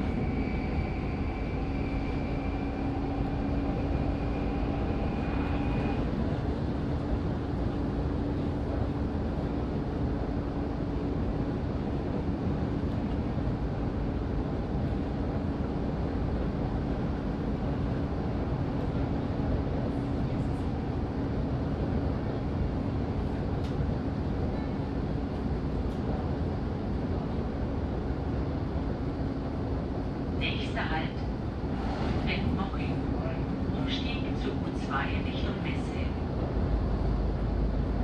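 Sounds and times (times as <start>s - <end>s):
constant low hum: 0.0s - 38.0s
train wheels rumbling on rail: 0.0s - 38.0s.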